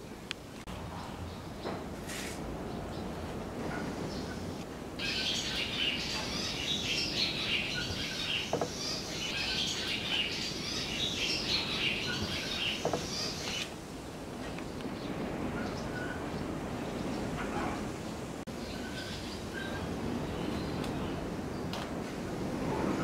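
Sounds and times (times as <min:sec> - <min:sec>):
birds chirping: 0:02.5 - 0:21.8.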